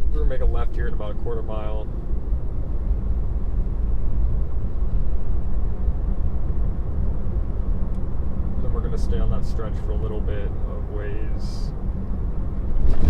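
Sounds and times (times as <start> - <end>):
road and tyre noise in car: 0.0 - 13.0.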